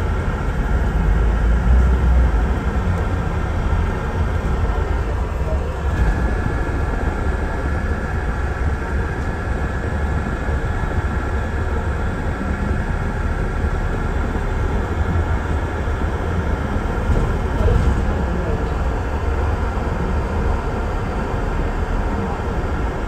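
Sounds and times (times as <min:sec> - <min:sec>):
bus engine and road rumble: 0:00.0 - 0:23.0
faint steady whine: 0:00.0 - 0:23.0.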